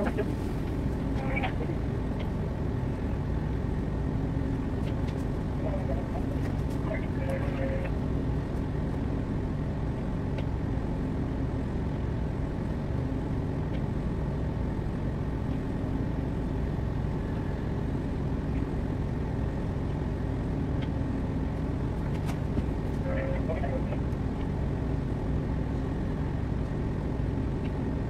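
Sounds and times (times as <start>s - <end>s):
low rumble aboard ship: 0.0s - 28.0s.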